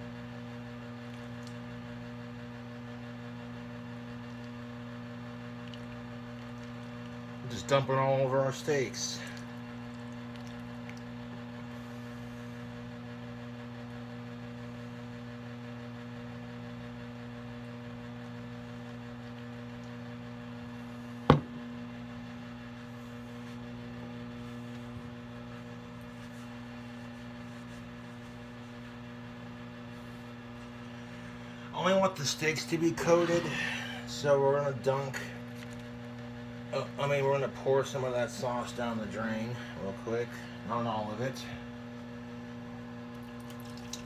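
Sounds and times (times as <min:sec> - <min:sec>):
electrical mains hum: 0:00.0 - 0:44.0.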